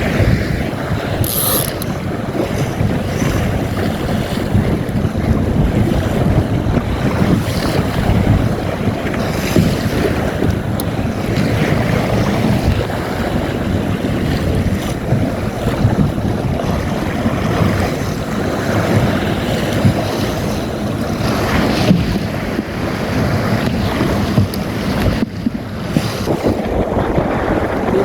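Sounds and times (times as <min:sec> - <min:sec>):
water splashing along boat hull: 0:00.0 - 0:28.0
wind buffeting microphone: 0:00.0 - 0:28.0.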